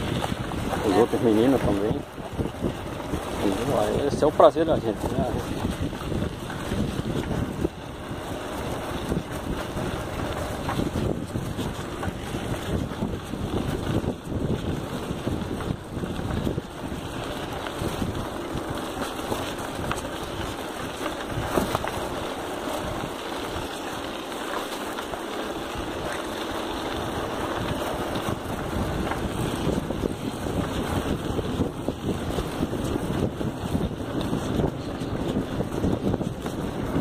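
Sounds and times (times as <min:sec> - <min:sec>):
bicycle rolling on dirt trail: 0:00.0 - 0:37.0
wind buffeting microphone: 0:00.0 - 0:37.0
small knocks from bike: 0:01.4 - 0:37.0.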